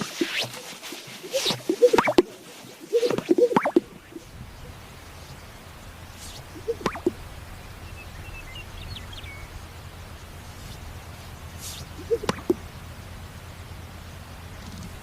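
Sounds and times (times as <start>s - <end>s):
bird sweeping call: 0.0s - 13.2s
faint high chirps: 1.2s - 13.8s.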